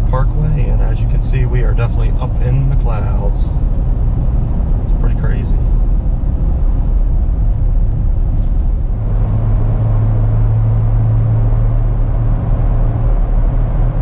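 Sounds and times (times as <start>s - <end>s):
engine and road rumble: 0.0s - 14.0s
low drone: 0.0s - 14.0s.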